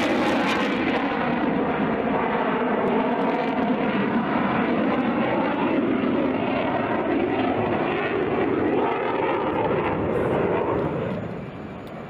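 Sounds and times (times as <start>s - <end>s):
jet flying overhead: 0.0s - 12.0s.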